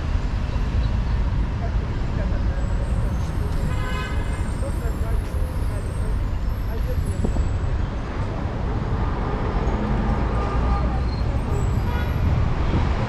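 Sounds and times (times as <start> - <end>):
cars and buses passing: 0.0 - 13.0
voices of passers-by: 0.0 - 13.0.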